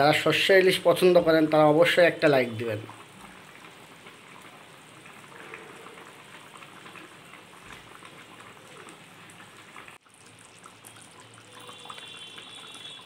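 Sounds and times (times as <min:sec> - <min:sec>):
sauce bubbling and spitting: 0:00.5 - 0:13.0.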